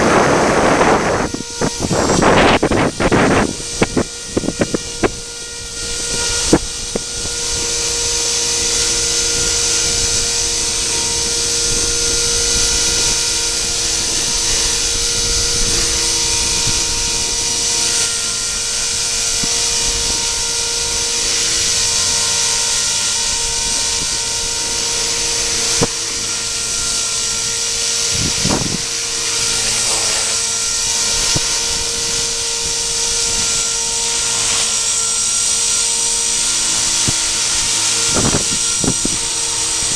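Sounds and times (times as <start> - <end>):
model helicopter rotor whine: 0.0 - 39.9.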